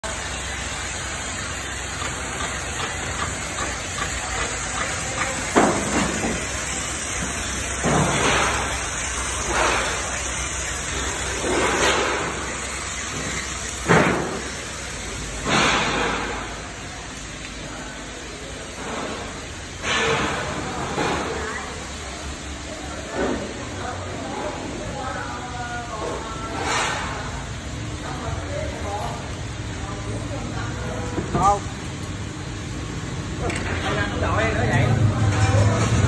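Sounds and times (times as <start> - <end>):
machinery running with steady din: 0.0 - 36.0.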